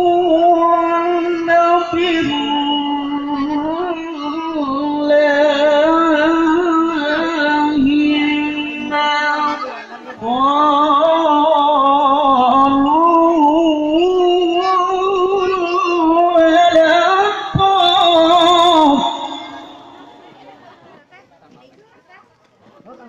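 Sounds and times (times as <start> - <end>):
person singing long held notes: 0.0 - 20.5.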